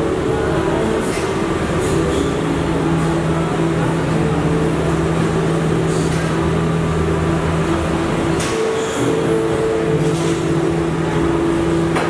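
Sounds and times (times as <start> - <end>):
factory machinery hum: 0.0 - 12.0.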